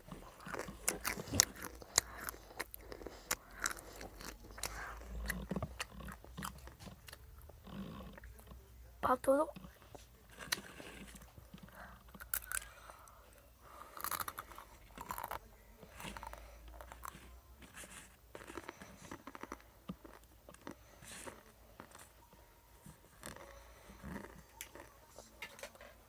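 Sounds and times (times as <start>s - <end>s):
chewing crunchy food: 0.0s - 8.7s, 9.5s - 26.0s.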